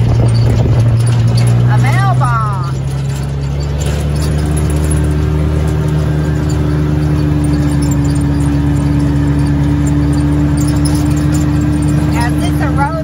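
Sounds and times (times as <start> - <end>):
atv engine droning: 0.0 - 13.0.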